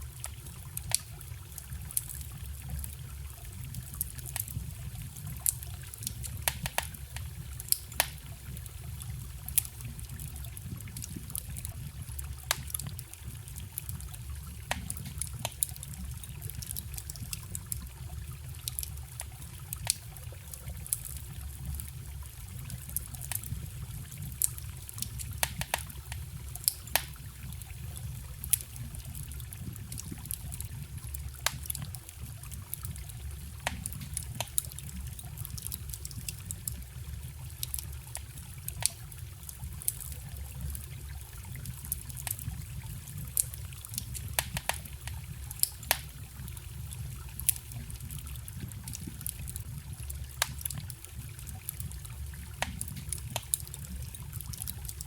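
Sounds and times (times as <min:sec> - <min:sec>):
small stream trickling: 0:00.0 - 0:55.0
wood fire crackling and popping: 0:00.0 - 0:55.0.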